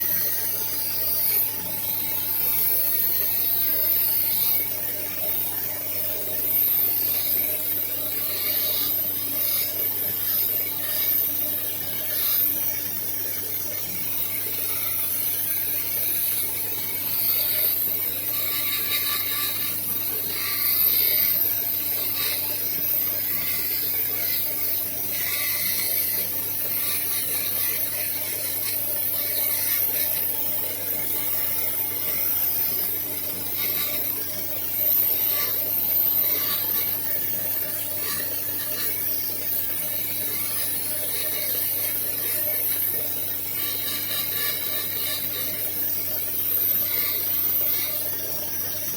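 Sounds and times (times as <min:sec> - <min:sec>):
carving tools scraping stone: 0:00.3 - 0:12.9, 0:14.3 - 0:48.9.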